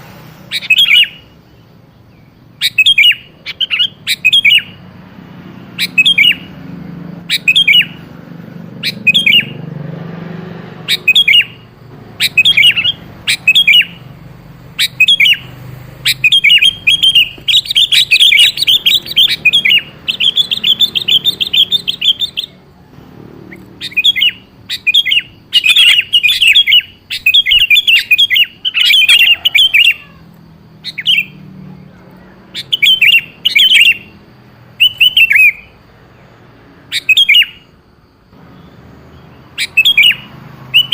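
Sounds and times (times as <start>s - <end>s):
bulbul calling: 0.4s - 37.8s, 38.4s - 40.9s
bird rapid chattering: 0.5s - 9.7s, 10.7s - 22.8s, 23.4s - 31.4s, 32.4s - 35.8s, 38.5s - 40.9s.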